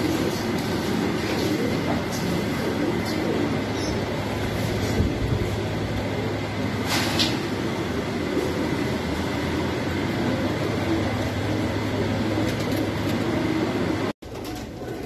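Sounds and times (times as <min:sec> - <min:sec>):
steady low hum: 0:00.0 - 0:14.2
pigeons cooing: 0:00.0 - 0:15.0.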